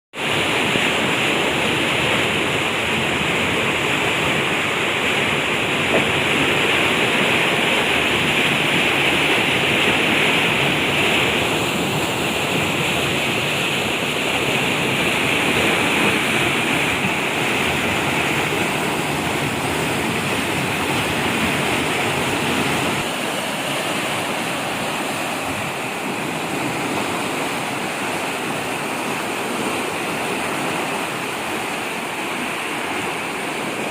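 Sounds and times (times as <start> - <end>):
floodwater rushing: 0.2 - 33.9.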